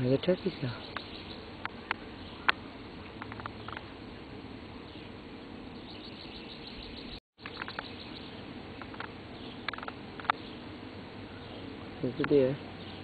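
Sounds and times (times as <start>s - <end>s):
bird chirps: 0.0s - 4.0s, 4.8s - 13.0s
insect hum: 0.0s - 13.0s.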